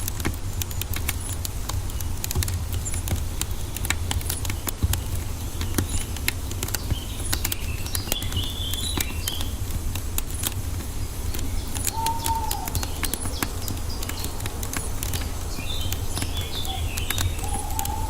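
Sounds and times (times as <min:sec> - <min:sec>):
wood fire crackling and popping: 0:00.0 - 0:18.0
birds chirping: 0:01.6 - 0:18.0.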